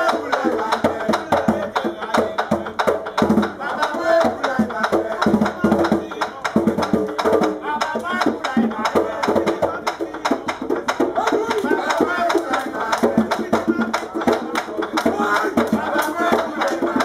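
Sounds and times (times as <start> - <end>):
hand drum beating: 0.0 - 17.0
voices singing: 0.0 - 17.0.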